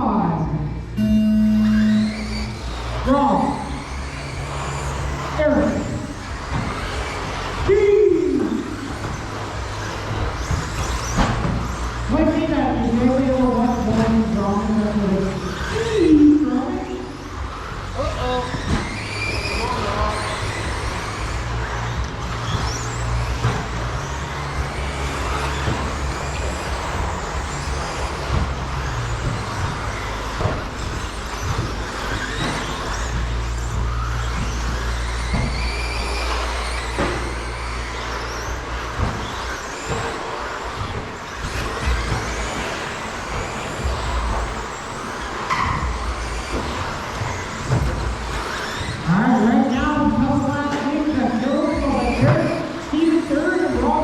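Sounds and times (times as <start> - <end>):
electric rc truck motors whining: 0.0 - 54.0.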